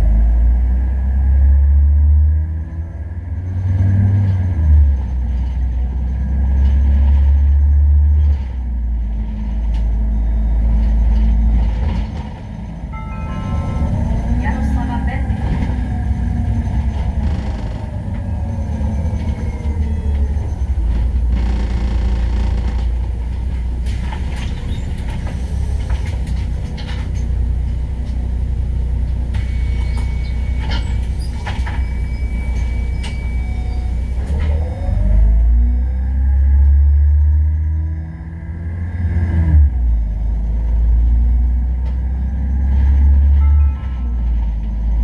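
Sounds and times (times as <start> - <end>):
bus engine rumble: 0.0 - 45.0.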